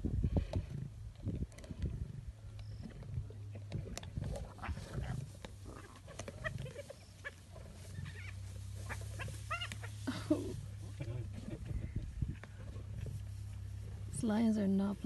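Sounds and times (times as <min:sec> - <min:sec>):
steady low hum: 0:00.0 - 0:15.0
lions growling: 0:00.3 - 0:14.3.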